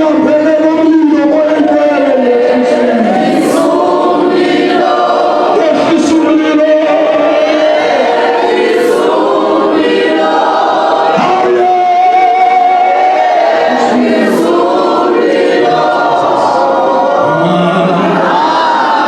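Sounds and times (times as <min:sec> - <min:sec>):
church choir singing gospel: 0:00.0 - 0:19.0.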